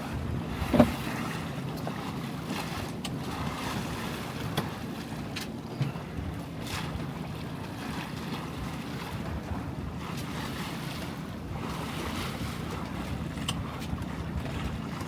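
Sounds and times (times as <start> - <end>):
water washing along hull: 0.0 - 15.0.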